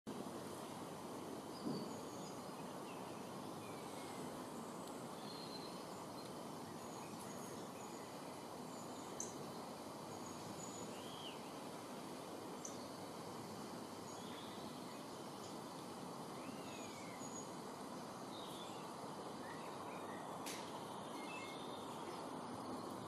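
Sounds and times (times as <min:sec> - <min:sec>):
outdoor background noise: 0:00.1 - 0:23.0
songbirds chirping and whistling: 0:01.4 - 0:11.8, 0:12.5 - 0:23.0.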